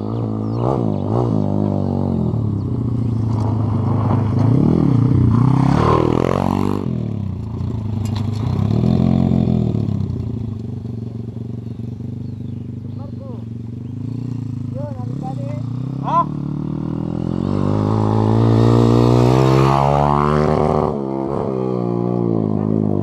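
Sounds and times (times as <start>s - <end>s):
motorbike engine revving past: 0.0s - 23.0s.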